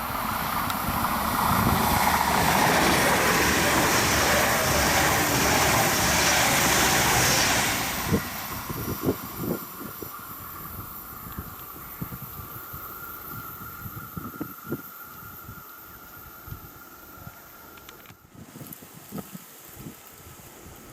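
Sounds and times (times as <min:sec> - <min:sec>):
train passing: 0:00.0 - 0:18.2.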